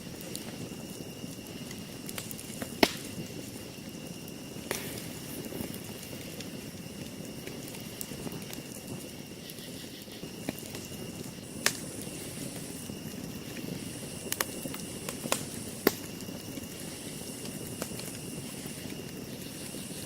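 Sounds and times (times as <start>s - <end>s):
campfire burning: 0.0s - 20.0s
fire pops and crackles: 0.0s - 20.0s.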